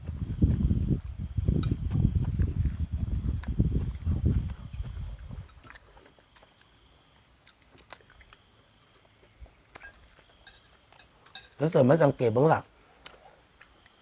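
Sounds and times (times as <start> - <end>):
chewing clicks and crunches: 0.5 - 11.7, 13.0 - 14.0.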